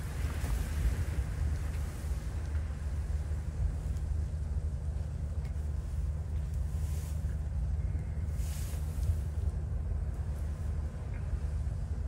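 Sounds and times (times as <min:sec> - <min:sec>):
hissing wind gusts: 0:00.0 - 0:12.0
wind rumbling on microphone: 0:00.0 - 0:12.0.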